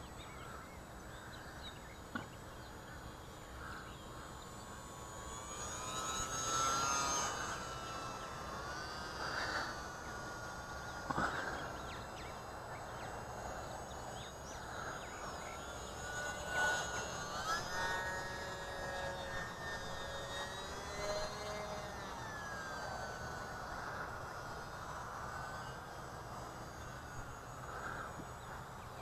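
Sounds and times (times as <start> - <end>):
small electric motor whine: 0.0 - 29.0.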